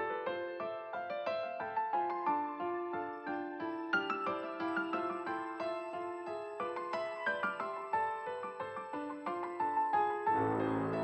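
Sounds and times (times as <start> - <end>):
soft keyboard melody: 0.0 - 11.0.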